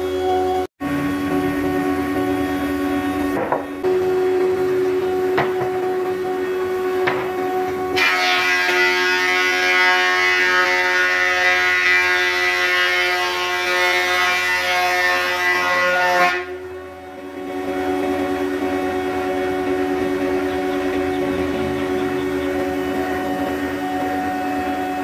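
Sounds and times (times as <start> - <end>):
thickness planer motor hum: 0.0 - 25.0.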